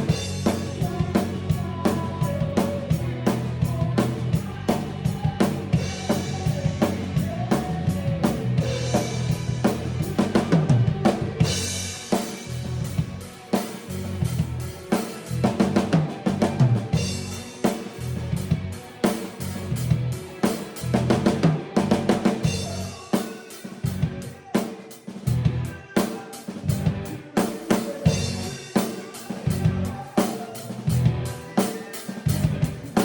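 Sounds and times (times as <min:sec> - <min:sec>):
drum kit playing: 0:00.0 - 0:33.0.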